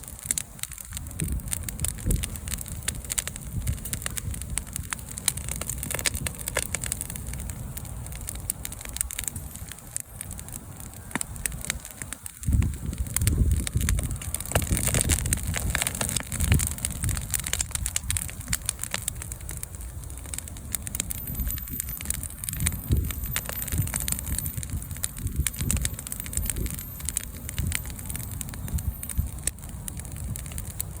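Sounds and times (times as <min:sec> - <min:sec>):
bonfire crackling and popping: 0:00.0 - 0:31.0
wind rumble on microphone: 0:00.0 - 0:31.0.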